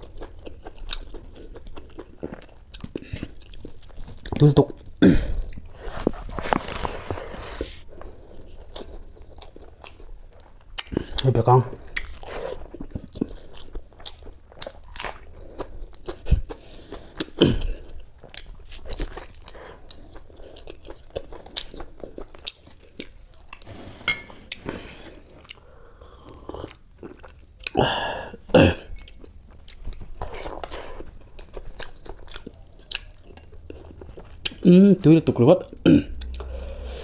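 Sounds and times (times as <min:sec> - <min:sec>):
close chewing and biting: 0:00.0 - 0:23.7, 0:24.4 - 0:37.0.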